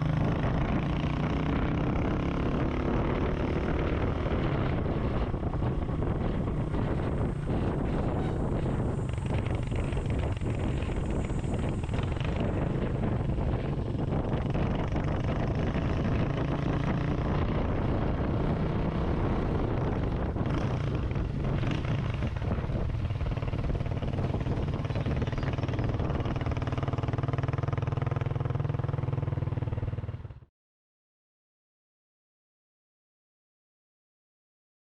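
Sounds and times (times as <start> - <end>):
motorcycle engine running: 0.0 - 30.5
wind rumble on microphone: 0.0 - 30.5.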